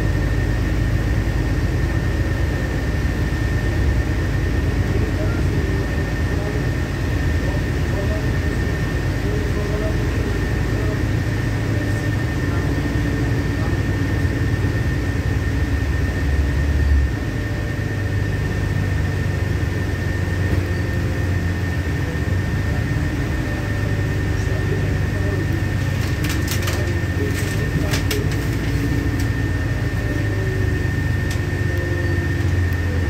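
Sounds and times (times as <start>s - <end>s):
bus engine and road drone: 0.0s - 33.0s.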